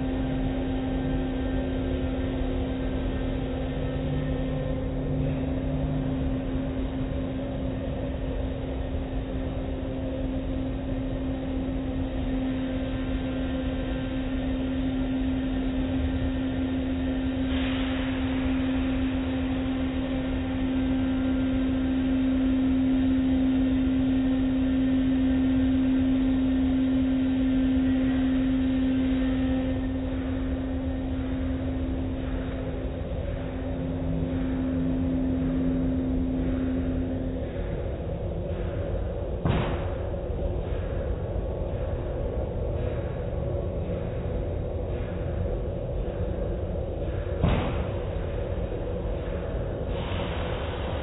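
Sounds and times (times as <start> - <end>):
car wash motor hum: 0.0 - 51.0.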